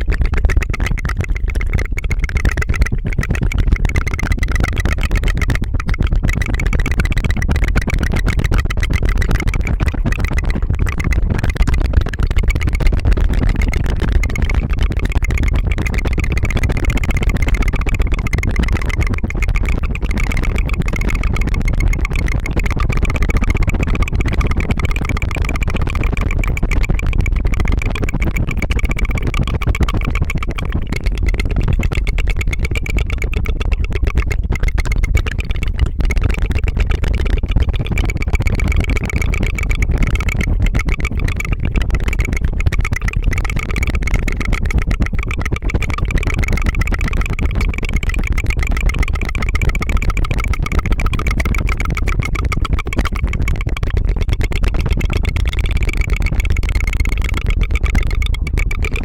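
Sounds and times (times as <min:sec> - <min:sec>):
tongue fluttering trill: 0:00.0 - 0:59.0.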